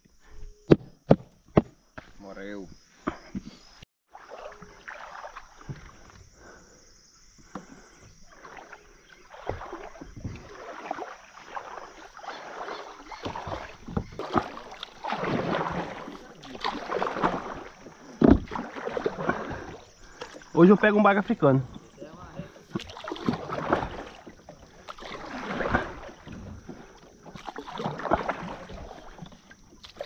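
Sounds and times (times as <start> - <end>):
paddle splashing in water: 4.1 - 6.6, 7.4 - 30.0.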